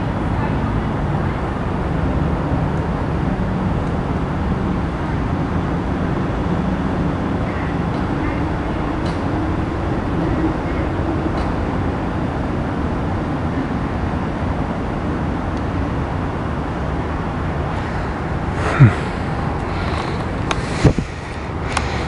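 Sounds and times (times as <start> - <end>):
distant airplane rumble: 0.0 - 22.0
faint hum: 0.0 - 22.0.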